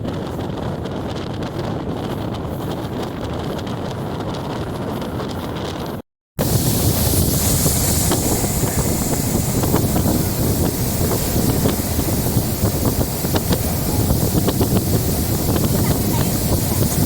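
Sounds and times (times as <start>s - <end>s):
train rumbling: 0.0s - 17.0s
wind buffeting microphone: 0.0s - 17.0s.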